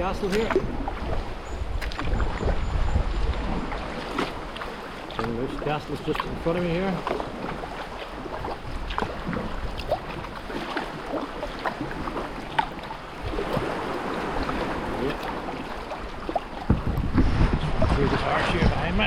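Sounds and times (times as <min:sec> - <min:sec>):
paddle splashes: 0:00.0 - 0:19.0
sea water wash: 0:00.0 - 0:19.0
wind rumbling on microphone: 0:00.0 - 0:19.0.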